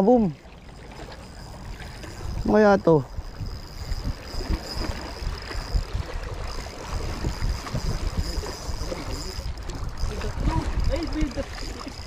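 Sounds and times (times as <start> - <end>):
water lapping: 0.0 - 12.0
wind buffeting microphone: 0.8 - 12.0.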